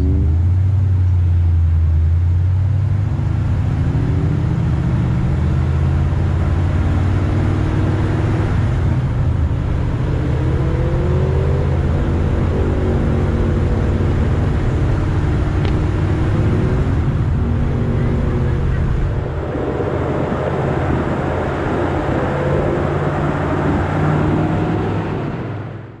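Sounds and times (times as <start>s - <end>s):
car engine cruising: 0.0s - 26.0s
road and wind noise: 0.0s - 26.0s.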